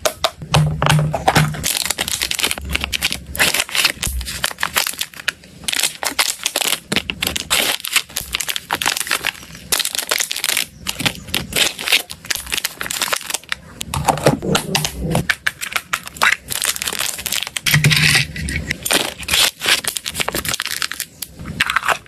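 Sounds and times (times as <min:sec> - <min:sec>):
plastic bags crinkling: 0:01.2 - 0:22.0.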